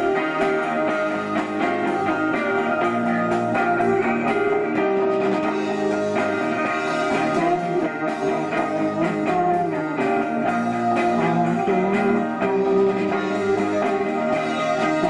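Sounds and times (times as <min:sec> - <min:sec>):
ringing guitar chords: 0:00.0 - 0:15.0
rock band playing: 0:00.0 - 0:15.0.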